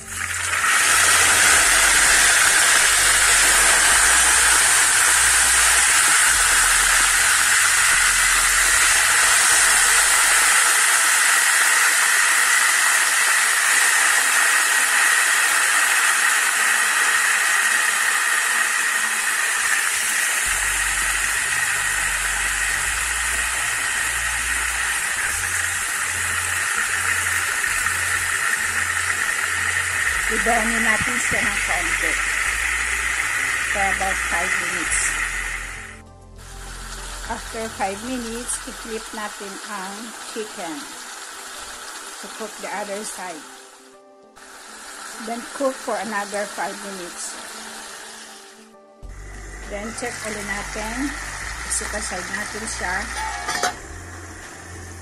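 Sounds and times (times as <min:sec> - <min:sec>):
chicken frying in hot oil: 0:00.0 - 0:43.8, 0:44.4 - 0:55.0.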